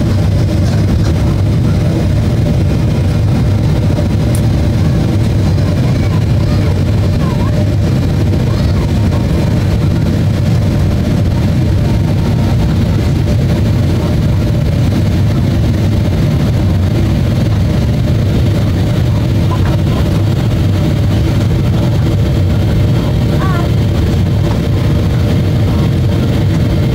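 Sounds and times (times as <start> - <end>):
airplane cabin roar: 0.0 - 26.9.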